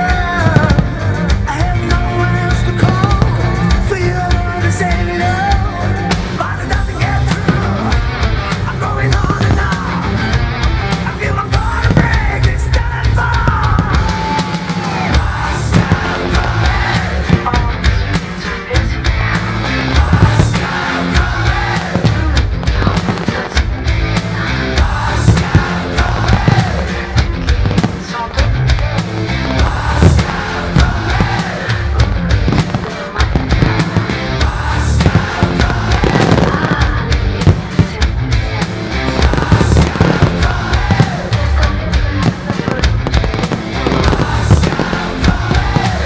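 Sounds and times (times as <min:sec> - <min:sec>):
heavy rock music: 0:00.0 - 0:46.0.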